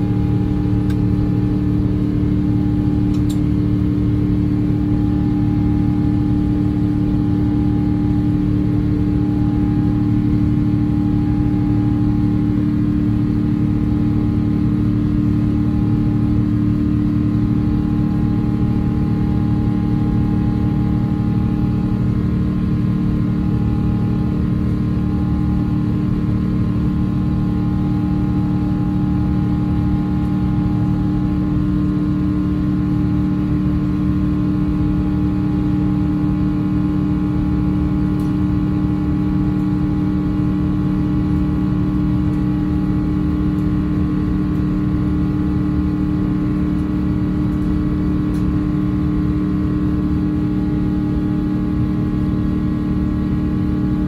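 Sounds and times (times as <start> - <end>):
airplane cabin engine roar: 0.0 - 54.0
low hum tones: 0.0 - 54.0.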